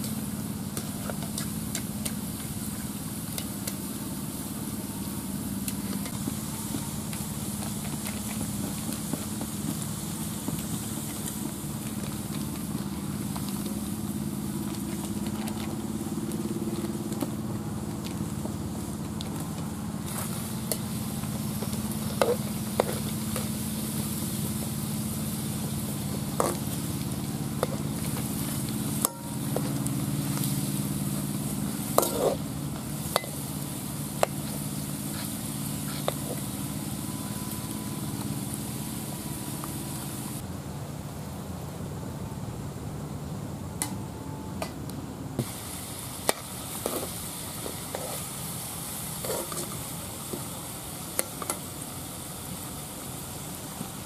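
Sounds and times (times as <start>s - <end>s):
oil sizzling in wok: 0.0s - 40.5s, 45.4s - 54.0s
steady low hum: 0.0s - 54.0s.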